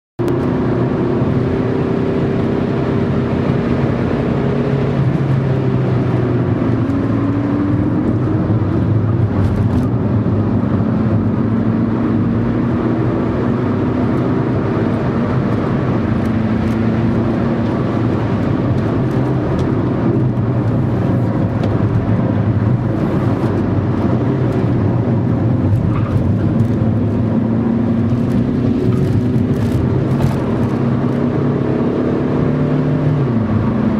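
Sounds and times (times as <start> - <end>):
car engine revving: 0.2 - 33.9
road and wind noise: 0.2 - 33.9.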